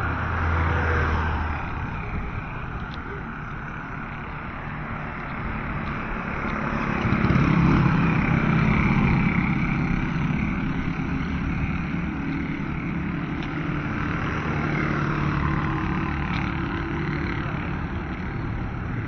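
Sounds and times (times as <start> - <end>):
motorcycle engine passing: 0.0 - 19.0.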